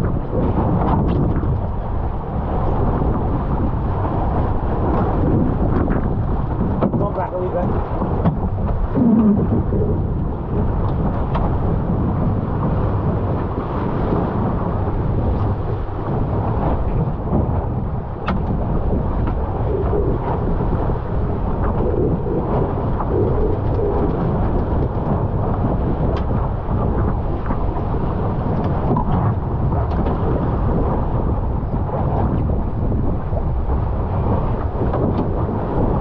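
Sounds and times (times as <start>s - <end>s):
water rushing along a hull: 0.0s - 36.0s
wind buffeting microphone: 0.0s - 36.0s.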